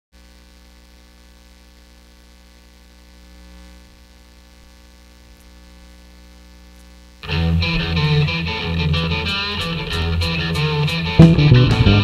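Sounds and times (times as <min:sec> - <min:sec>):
mains hum with hiss: 0:00.2 - 0:12.0.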